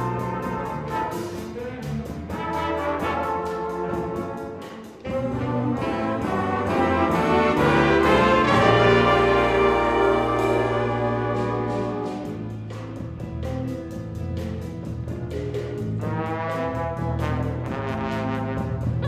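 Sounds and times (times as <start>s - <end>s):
concert band playing: 0.0s - 19.0s.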